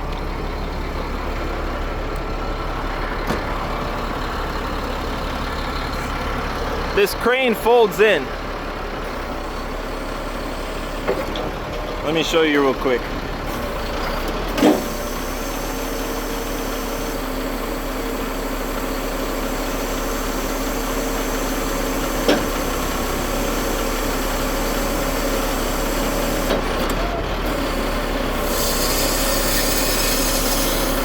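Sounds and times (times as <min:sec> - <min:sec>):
crane hydraulics humming: 0:00.0 - 0:19.2, 0:19.8 - 0:31.0
diesel truck engine running: 0:00.0 - 0:31.0.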